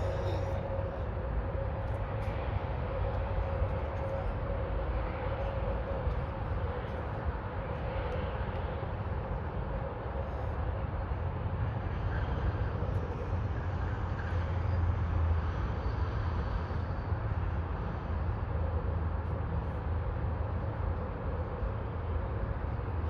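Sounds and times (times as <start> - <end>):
faint high whine: 0.0 - 23.0
jet engines rumbling: 0.0 - 23.0.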